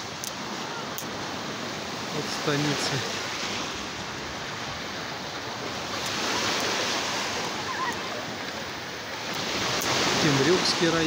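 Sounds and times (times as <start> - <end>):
small waves washing onto shore: 0.0 - 11.0.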